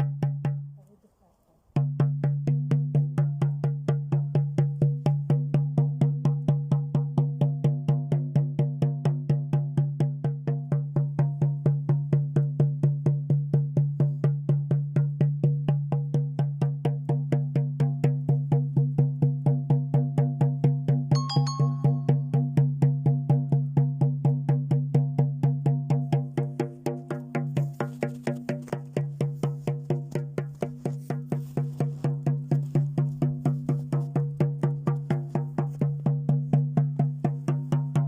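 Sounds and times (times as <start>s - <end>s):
frame drum booming beats: 1.8s - 38.0s.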